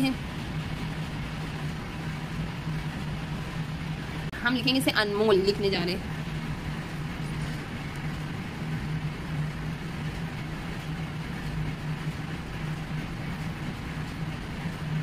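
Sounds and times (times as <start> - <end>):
low hum with hiss: 0.0 - 15.0.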